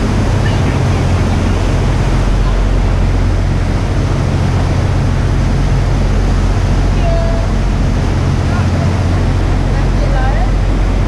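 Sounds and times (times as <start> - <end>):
boat engine droning: 0.0 - 11.0
water rushing: 0.0 - 11.0
wind noise on microphone: 0.0 - 11.0.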